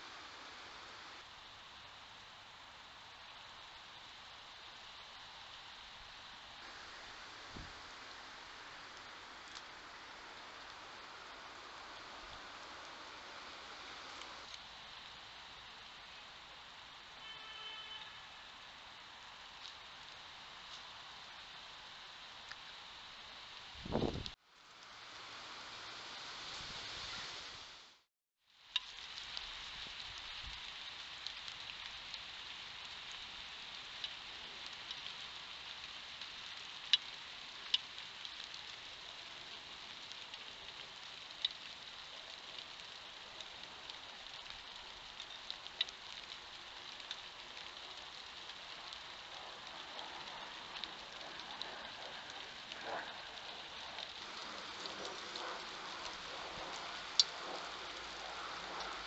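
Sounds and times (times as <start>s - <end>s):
microphone hiss: 0.0s - 52.5s.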